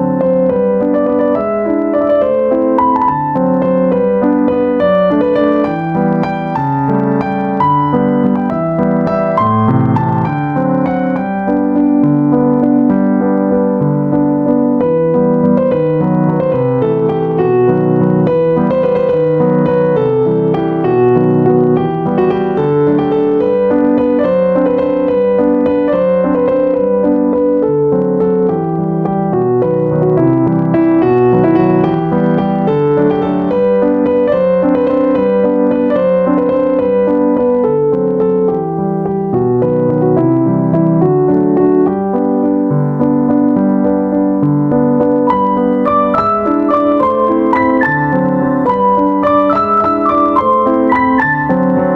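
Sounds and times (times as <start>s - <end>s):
piano piece: 0.0s - 51.9s.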